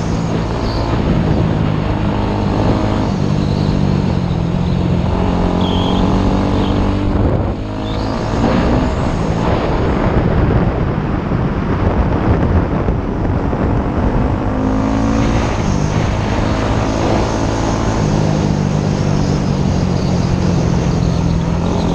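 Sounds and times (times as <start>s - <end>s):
motorcycle engine running: 0.0s - 21.9s
wind and road noise: 0.0s - 21.9s.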